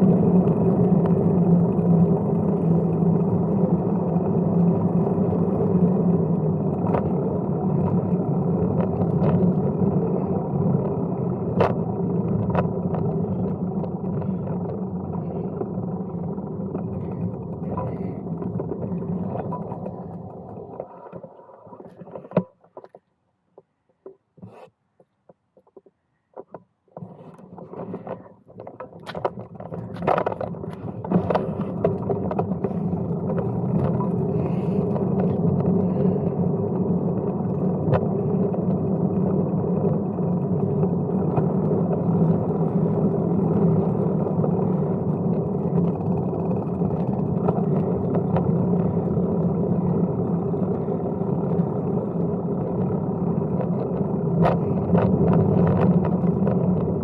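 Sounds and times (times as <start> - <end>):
tyre and wind noise: 0.0 - 22.9, 24.0 - 57.0
bike clicks and knocks: 0.1 - 36.2, 36.8 - 51.8.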